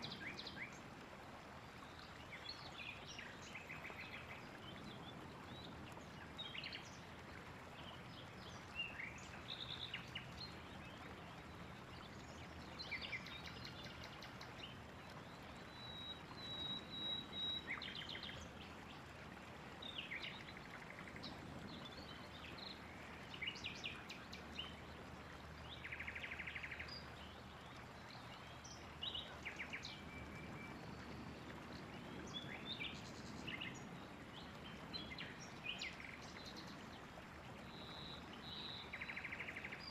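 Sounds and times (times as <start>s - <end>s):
songbirds singing and calling: 0.0s - 1.0s, 1.7s - 39.9s
faint background hiss: 0.0s - 39.9s.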